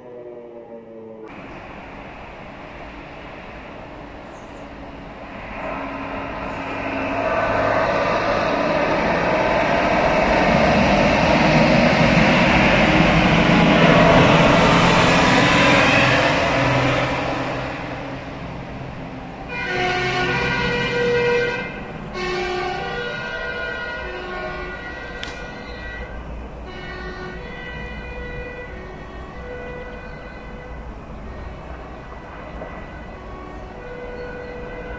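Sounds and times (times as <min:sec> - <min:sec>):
fire engine driving past: 0:00.0 - 0:34.9
alternating horn tones: 0:04.0 - 0:34.9.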